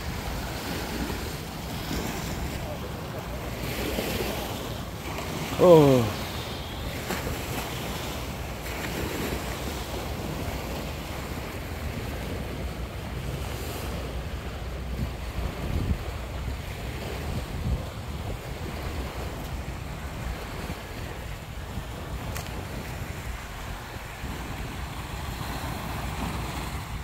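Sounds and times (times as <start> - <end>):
sea waves washing: 0.0 - 27.0
wind buffeting microphone: 0.0 - 27.0.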